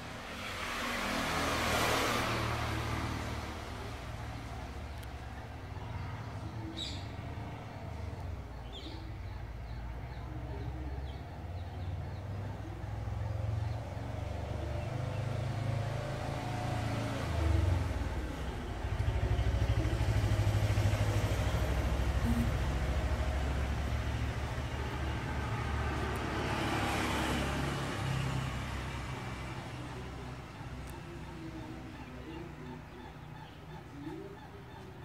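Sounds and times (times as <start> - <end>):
vehicle engine running: 2.2 - 34.7.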